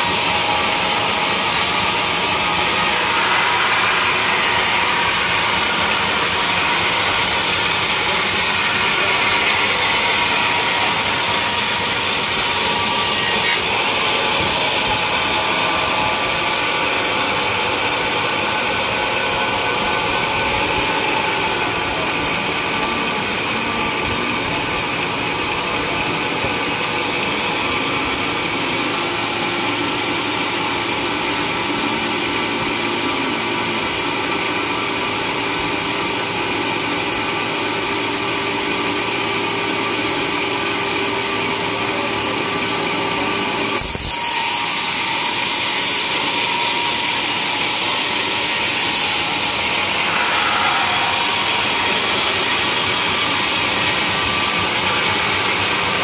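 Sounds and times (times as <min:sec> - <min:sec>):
band saw cutting log: 0:00.0 - 0:35.5, 0:41.7 - 0:56.0
sawmill drive machinery: 0:00.0 - 0:56.0.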